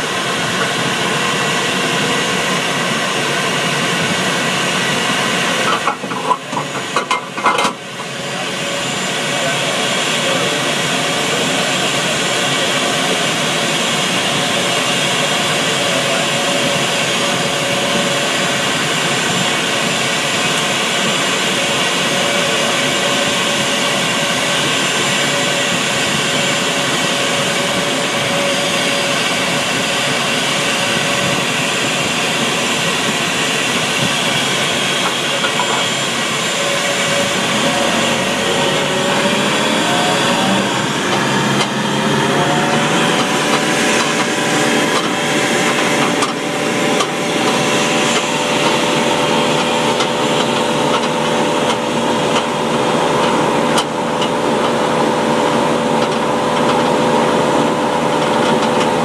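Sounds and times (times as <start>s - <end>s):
jet turbine whine: 0.0s - 59.0s
tug engine rising tone: 11.1s - 59.0s.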